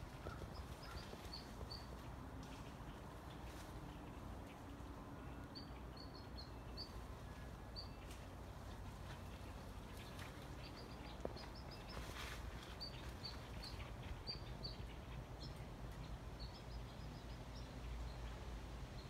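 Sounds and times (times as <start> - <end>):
faint small birds chirping: 0.0 - 19.0
low outdoor rumble: 0.0 - 19.0.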